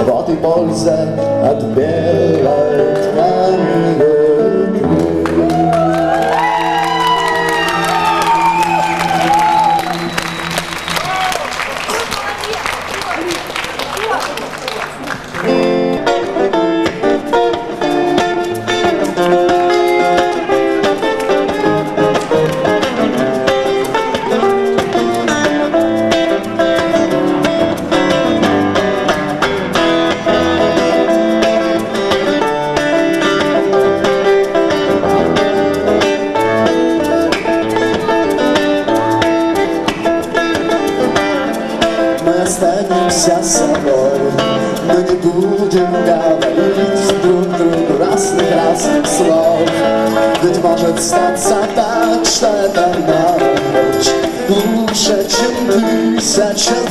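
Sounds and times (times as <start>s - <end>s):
live rock band playing: 0.0s - 13.4s, 14.0s - 56.9s
electric guitar melody: 0.0s - 56.9s.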